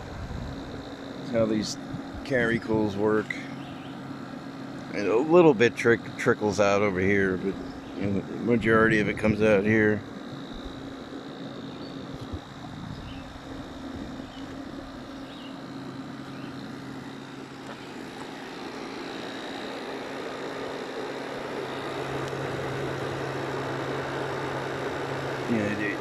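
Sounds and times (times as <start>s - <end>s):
air conditioner compressor hum: 0.0s - 26.0s
fan rushing: 0.0s - 26.0s.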